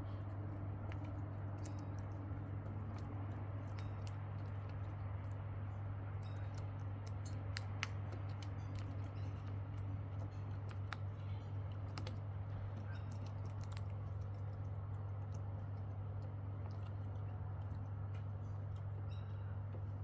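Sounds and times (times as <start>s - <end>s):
birds' beaks pecking: 0.0s - 19.0s
steady low hum: 0.0s - 20.0s.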